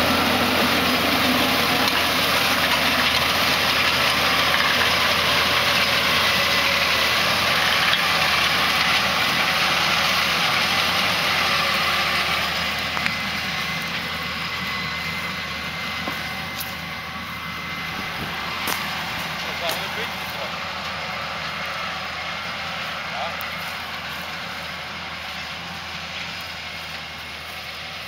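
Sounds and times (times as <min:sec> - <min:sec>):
disc harrow working ground: 0:00.0 - 0:28.0
tractor engine under load: 0:00.0 - 0:28.0.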